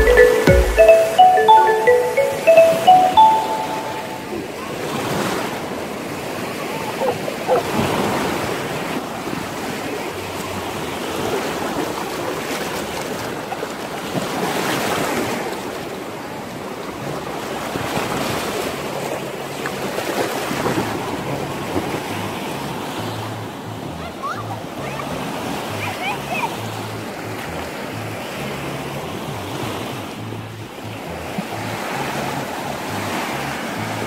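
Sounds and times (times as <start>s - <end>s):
small waves washing on sand: 4.7s - 34.0s.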